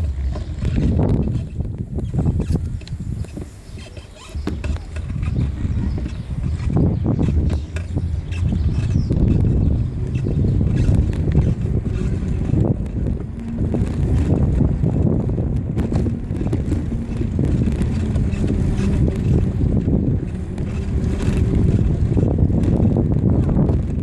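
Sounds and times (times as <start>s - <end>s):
low rumble of bicycle ride: 0.0s - 24.0s
wind buffeting microphone: 0.0s - 24.0s.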